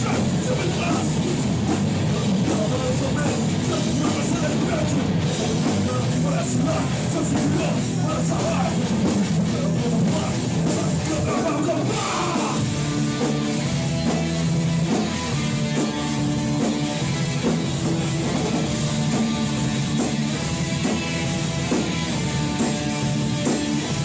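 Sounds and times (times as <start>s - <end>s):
distorted electric guitars: 0.0s - 24.0s
drum kit: 0.0s - 24.0s.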